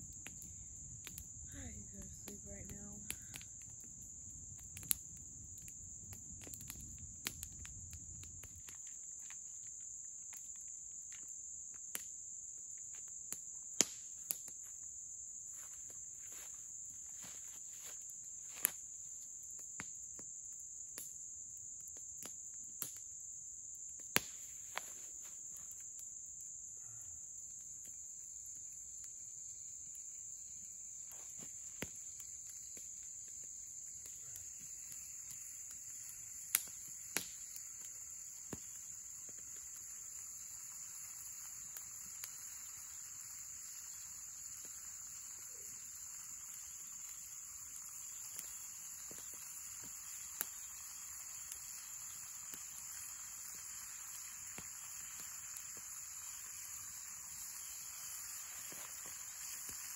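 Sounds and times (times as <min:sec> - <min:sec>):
campfire crackling and popping: 0:00.0 - 0:59.9
insects chirping: 0:00.0 - 0:59.9.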